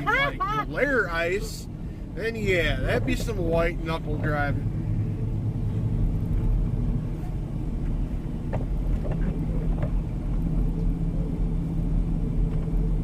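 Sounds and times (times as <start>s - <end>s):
engine hum and tyre rumble: 0.0s - 13.0s.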